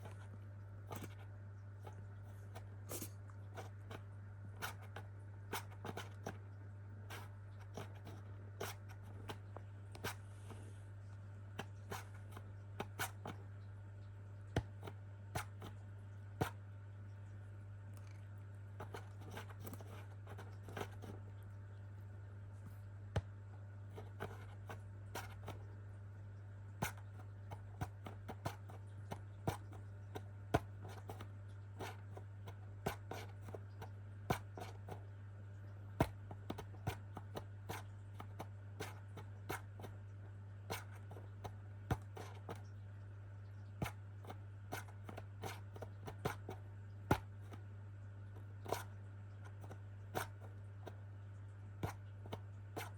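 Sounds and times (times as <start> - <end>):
pet clicking and scraping: 0.0 - 13.6, 18.0 - 21.8, 22.6 - 25.8, 26.8 - 35.1, 35.7 - 42.8, 43.5 - 51.1
steady low hum: 0.0 - 52.9.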